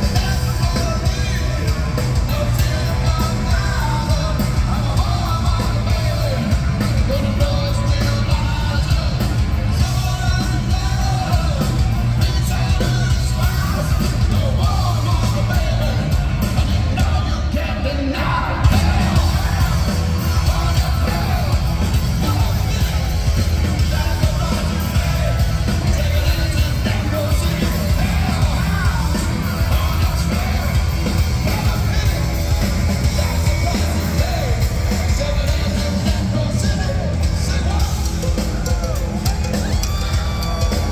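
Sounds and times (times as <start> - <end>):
bass guitar: 0.0 - 40.9
live rock band: 0.0 - 40.9
shouted lead vocal: 0.0 - 40.9.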